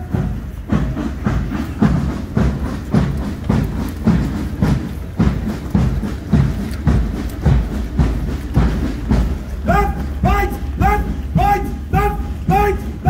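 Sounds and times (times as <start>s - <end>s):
boots marching on tarmac: 0.0s - 13.0s.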